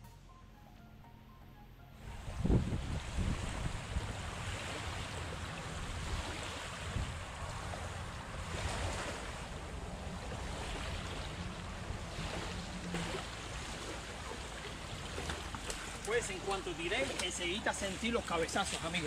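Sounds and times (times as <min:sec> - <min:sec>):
wind rumbling on microphone: 0:02.0 - 0:19.0
small waves washing on sand: 0:02.4 - 0:19.0.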